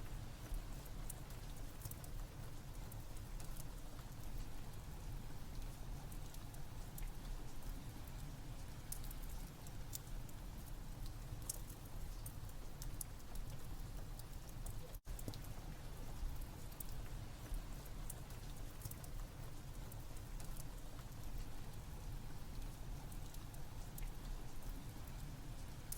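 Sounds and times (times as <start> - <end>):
steady rain: 0.0 - 25.9
wood fire crackling: 0.4 - 25.9.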